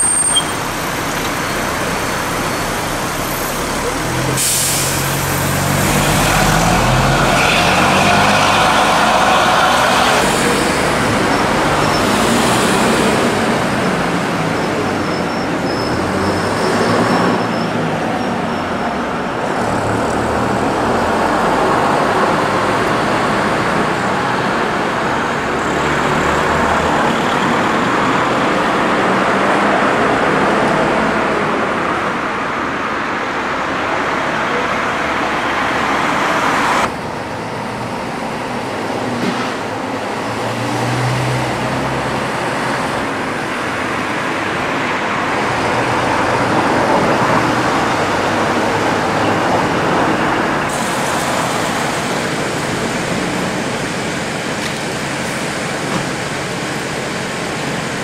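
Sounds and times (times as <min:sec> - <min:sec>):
cars passing: 0:00.0 - 0:58.0
diesel bus engine running: 0:00.0 - 0:58.0.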